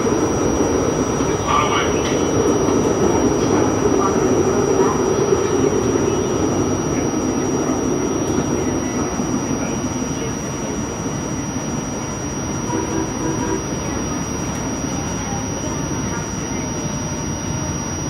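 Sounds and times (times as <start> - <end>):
light rail train rumbling on track: 0.0 - 18.0.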